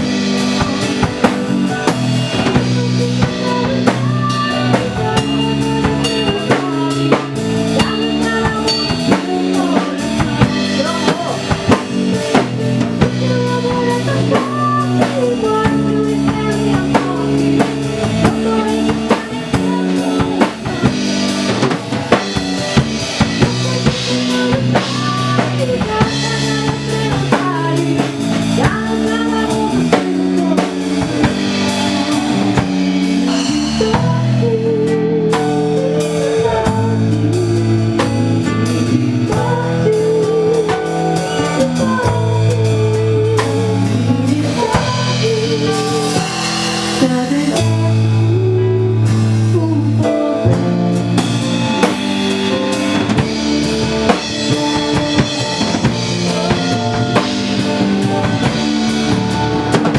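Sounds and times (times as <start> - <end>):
band playing instrumental: 0.0 - 59.9
drum kit beat: 0.0 - 59.9.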